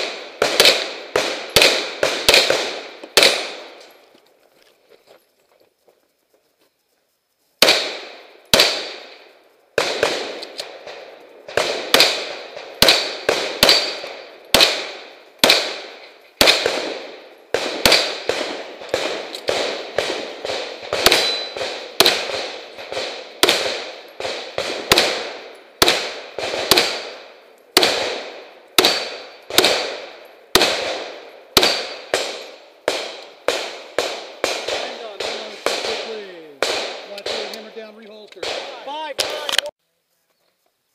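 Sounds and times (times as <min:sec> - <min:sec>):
gunshots with echo: 0:00.0 - 0:03.8, 0:07.6 - 0:39.7.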